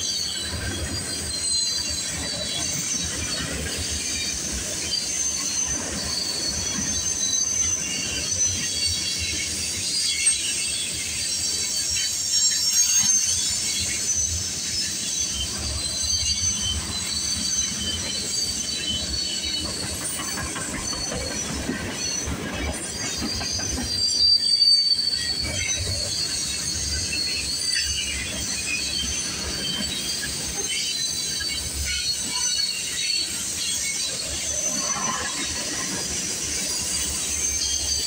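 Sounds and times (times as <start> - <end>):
train rumble: 0.0 - 38.0
train wheels squealing on rails: 0.0 - 38.0.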